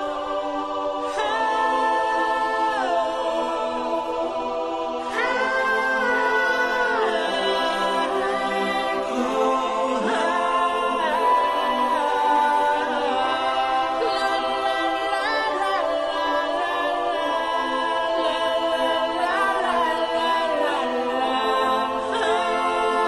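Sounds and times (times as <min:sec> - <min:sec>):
voices singing held notes: 0:00.0 - 0:23.0.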